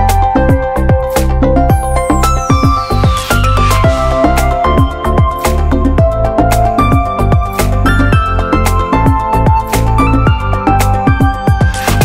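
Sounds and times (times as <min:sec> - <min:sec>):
electronic music with synth melody: 0:00.0 - 0:12.0.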